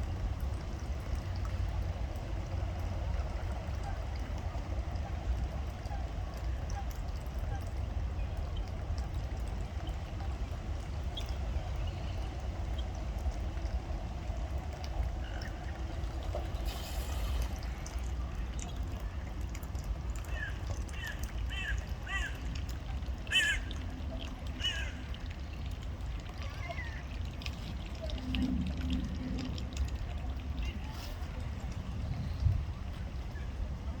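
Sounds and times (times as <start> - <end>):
low background rumble: 0.0 - 34.0.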